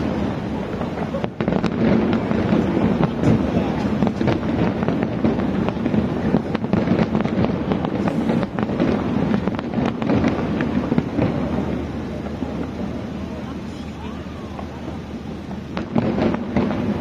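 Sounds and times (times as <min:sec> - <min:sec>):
fireworks cracking and crackling: 0:00.0 - 0:17.0
fireworks shells booming: 0:00.0 - 0:17.0.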